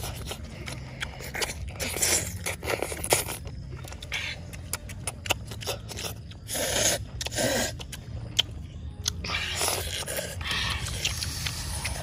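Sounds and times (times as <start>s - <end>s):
noisy eating bursts: 0.0s - 12.0s
wet chewing and lip smacks: 0.0s - 12.0s
sharp clicks of biting: 0.2s - 12.0s.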